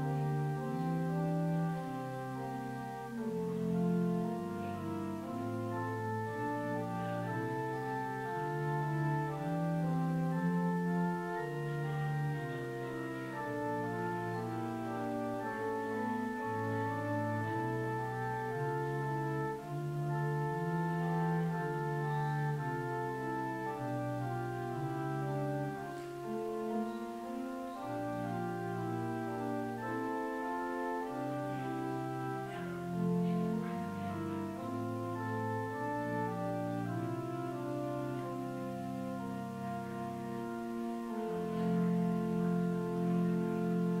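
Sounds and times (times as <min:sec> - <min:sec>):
organ playing sustained chords: 0:00.0 - 0:44.0.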